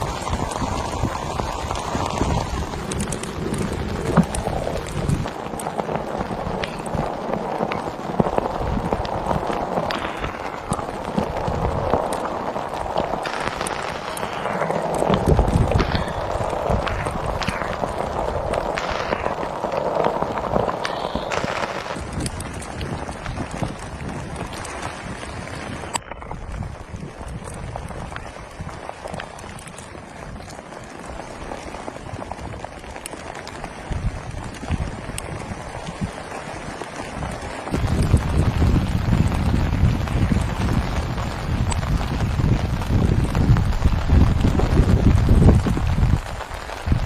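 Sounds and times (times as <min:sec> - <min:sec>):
heavy rain hiss: 0:00.0 - 0:26.0, 0:27.1 - 0:47.0
rain taps and knocks: 0:00.0 - 0:47.0.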